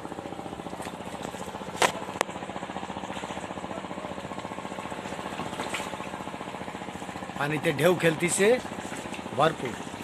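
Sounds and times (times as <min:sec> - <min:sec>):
engine running: 0:00.0 - 0:10.0.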